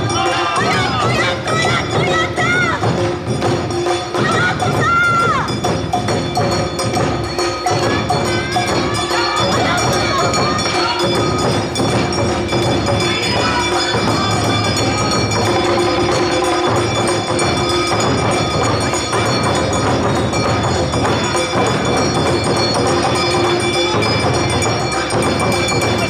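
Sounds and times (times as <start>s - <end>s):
drums beating a steady rhythm: 0.0s - 26.0s.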